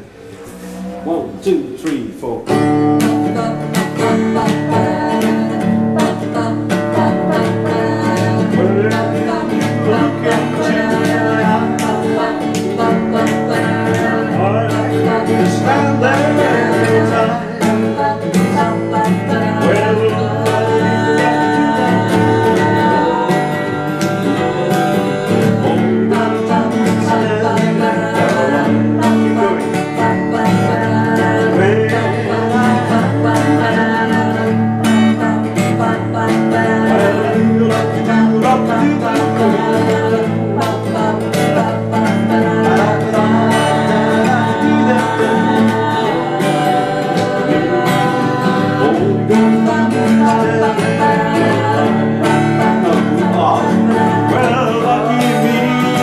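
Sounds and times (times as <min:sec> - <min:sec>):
acoustic guitar strumming: 0:00.0 - 0:56.0
people singing: 0:02.5 - 0:56.0.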